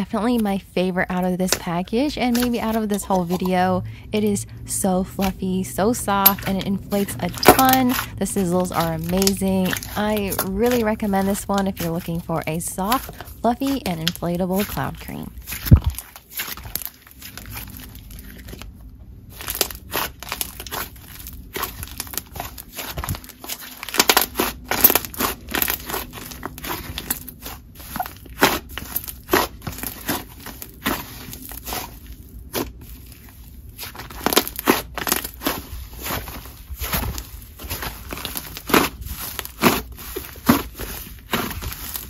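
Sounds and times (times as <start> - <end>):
slime crackling while kneaded: 0.0 - 42.0.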